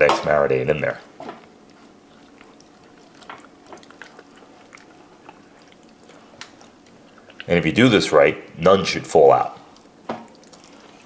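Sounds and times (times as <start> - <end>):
wet squishing of raw chicken: 0.0 - 11.0.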